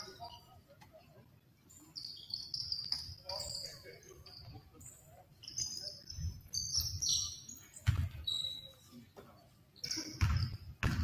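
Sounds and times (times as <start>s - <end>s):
shoes squeaking on gym floor: 1.7s - 11.0s.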